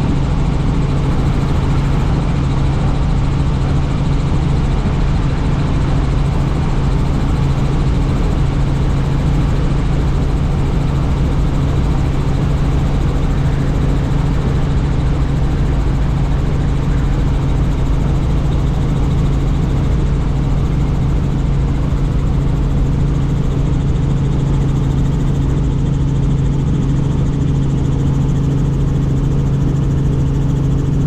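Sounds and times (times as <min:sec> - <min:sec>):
helicopter drone: 0:00.0 - 0:31.0.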